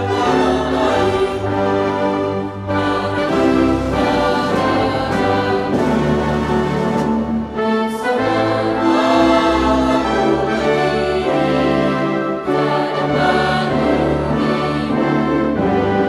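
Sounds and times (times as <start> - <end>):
choir singing with orchestra: 0.0 - 16.0.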